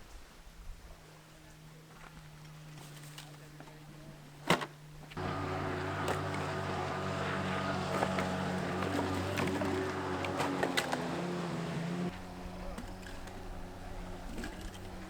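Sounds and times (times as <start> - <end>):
motor humming: 1.4 - 15.0.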